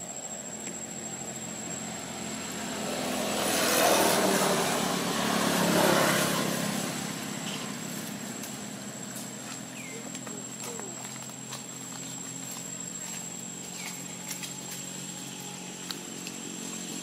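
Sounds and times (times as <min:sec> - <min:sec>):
passing engine: 0:00.0 - 0:17.0.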